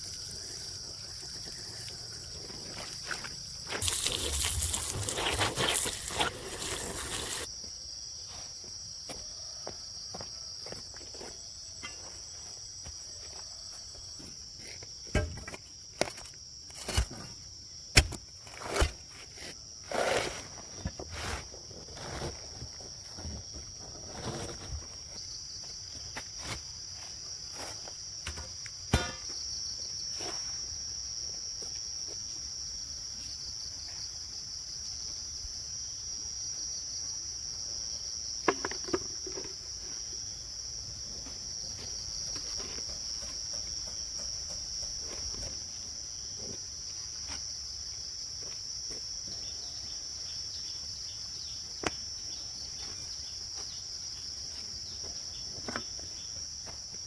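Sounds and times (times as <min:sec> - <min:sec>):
insects chorus: 0:00.0 - 0:57.0.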